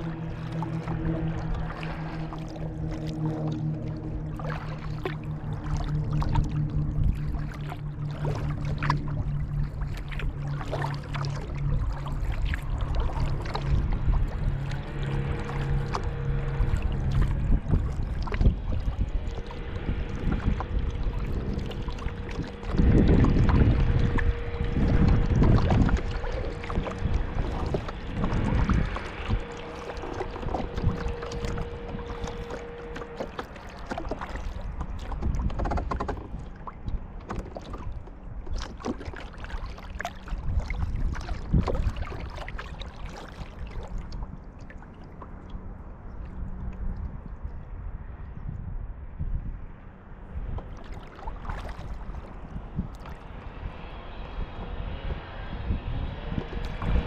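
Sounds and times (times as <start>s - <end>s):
paddle splashing in water: 0.0s - 47.6s, 50.4s - 54.3s, 56.3s - 57.0s
water lapping against hull: 0.0s - 57.0s.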